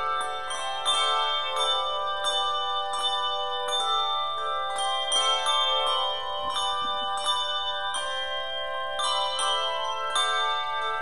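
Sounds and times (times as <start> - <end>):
handbells ringing in chords: 0.0 - 11.0.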